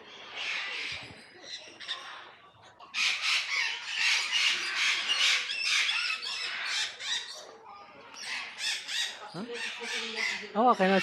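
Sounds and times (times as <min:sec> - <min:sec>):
birds squawking: 0:00.1 - 0:02.3, 0:02.9 - 0:07.6, 0:08.2 - 0:11.0.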